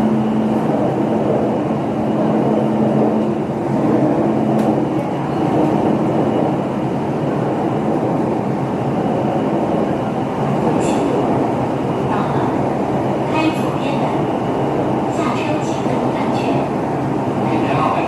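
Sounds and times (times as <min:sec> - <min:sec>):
train running through tunnel: 0:00.0 - 0:18.0.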